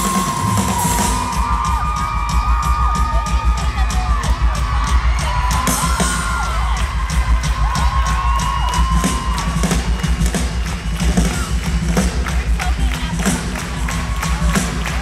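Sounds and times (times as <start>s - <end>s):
audience screaming: 0.0s - 11.8s, 13.2s - 15.0s
kick drum and cymbals: 0.0s - 15.0s.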